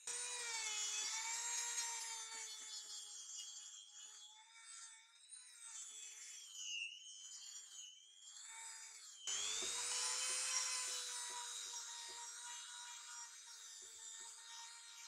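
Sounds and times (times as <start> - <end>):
rotary tool motor whine: 0.0 - 15.0.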